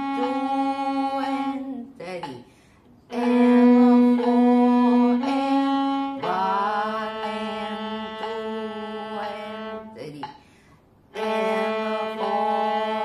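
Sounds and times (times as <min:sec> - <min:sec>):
viola bowed melody: 0:00.0 - 0:02.0, 0:03.1 - 0:10.2, 0:11.1 - 0:13.0.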